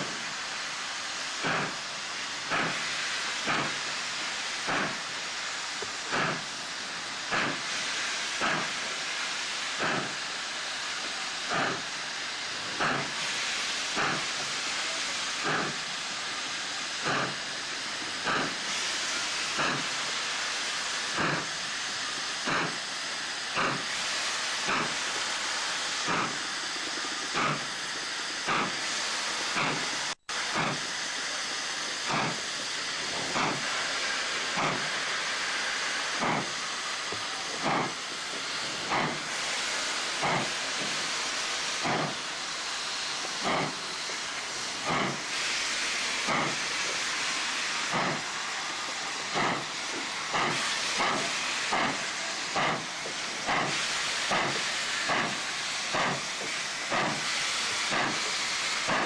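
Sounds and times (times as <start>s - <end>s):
steam hissing: 0.0s - 59.0s
steam locomotive exhaust beats: 0.0s - 59.0s.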